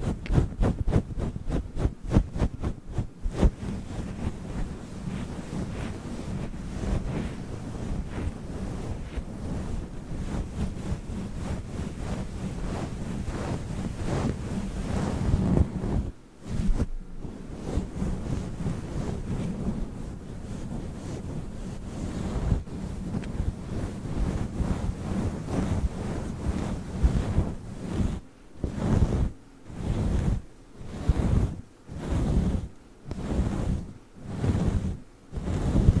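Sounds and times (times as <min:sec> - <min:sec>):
microphone cover rubbing: 0:00.0 - 0:36.0.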